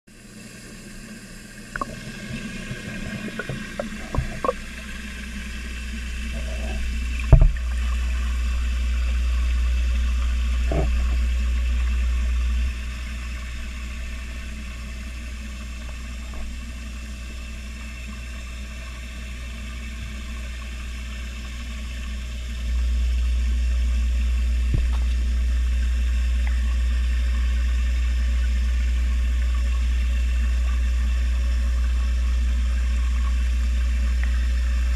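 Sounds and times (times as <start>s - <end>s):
muffled underwater rumble: 0.2s - 34.9s.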